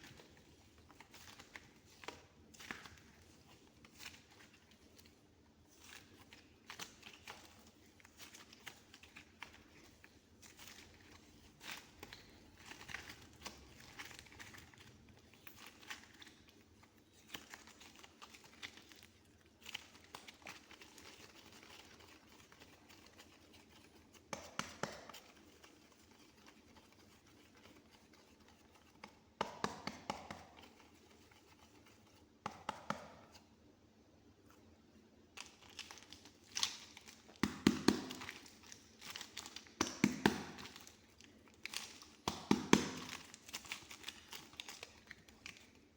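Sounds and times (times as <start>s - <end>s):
fingers squishing soft clay: 0.0s - 33.6s, 34.5s - 45.9s.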